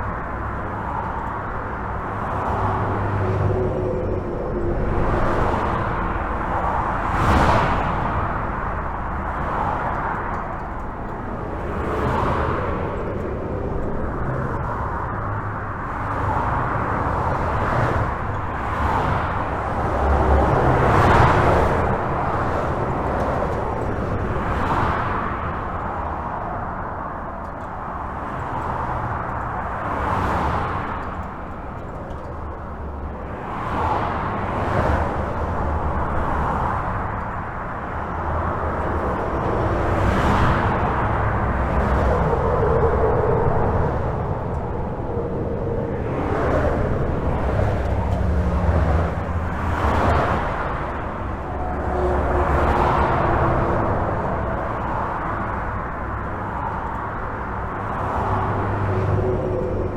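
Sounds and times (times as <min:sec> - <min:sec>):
cars whooshing past: 0:00.0 - 0:59.9
highway traffic rumble: 0:00.0 - 0:59.9.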